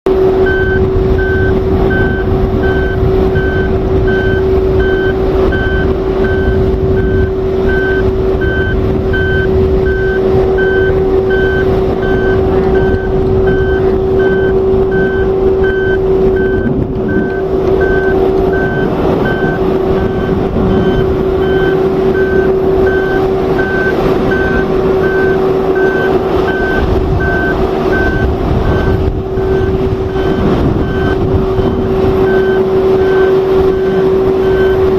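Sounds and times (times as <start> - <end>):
machinery hum and rumble: 0.1 - 34.9
vehicle backup alarm beeping: 0.2 - 34.9.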